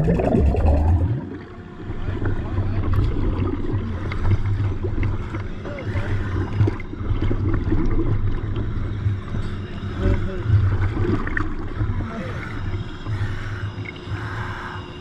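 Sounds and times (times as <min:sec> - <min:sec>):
water sloshing and bubbling: 0:00.0 - 0:15.0.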